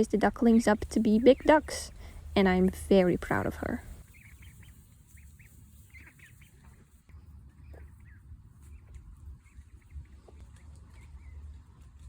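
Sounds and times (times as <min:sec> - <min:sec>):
ducklings peeping: 0:00.0 - 0:12.0
low steady hum: 0:00.0 - 0:12.0.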